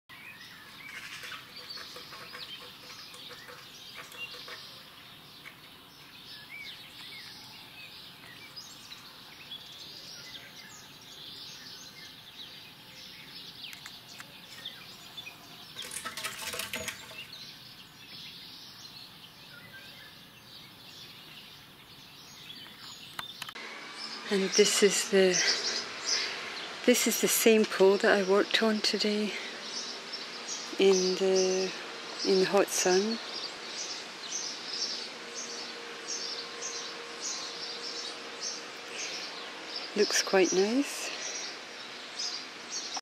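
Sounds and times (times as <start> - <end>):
outdoor background hiss: 0.1 - 43.0
small birds chirping: 0.1 - 43.0.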